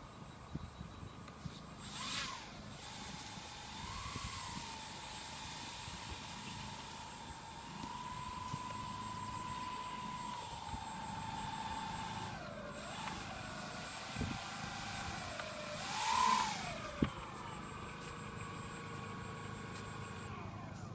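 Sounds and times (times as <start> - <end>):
model plane motors whining: 0.0 - 20.9.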